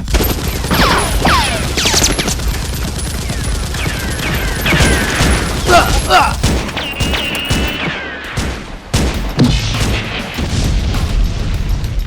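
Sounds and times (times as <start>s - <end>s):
automatic gunfire: 0.0s - 10.2s.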